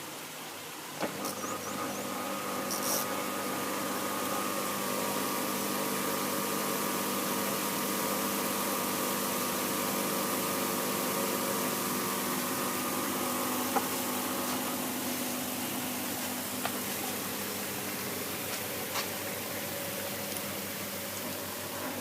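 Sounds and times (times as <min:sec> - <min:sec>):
washing machine motor humming: 0:00.9 - 0:22.0.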